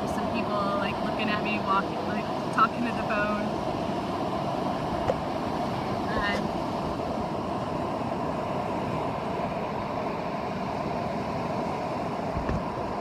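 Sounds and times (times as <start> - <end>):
surf rushing: 0.0 - 13.0
wind: 0.0 - 13.0.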